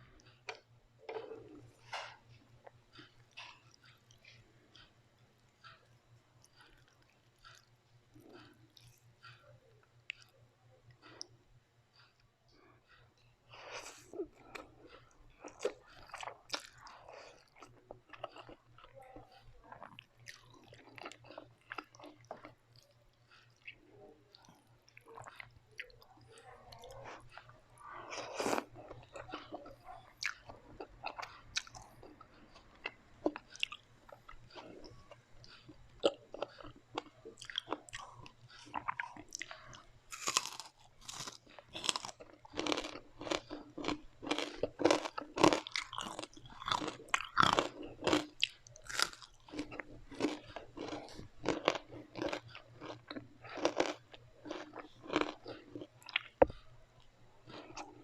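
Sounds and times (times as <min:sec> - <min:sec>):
chewing crispy fried food: 0:00.0 - 0:58.0.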